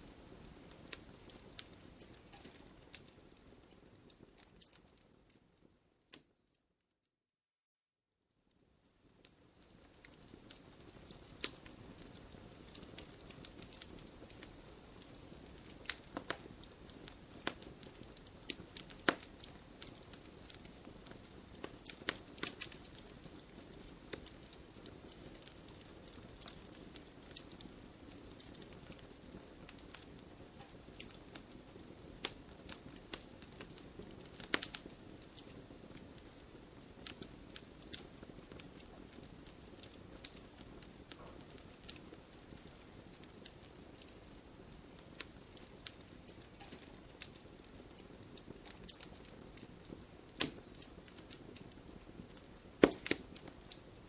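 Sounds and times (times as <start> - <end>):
campfire crackling: 0.0 - 6.4, 8.5 - 54.0.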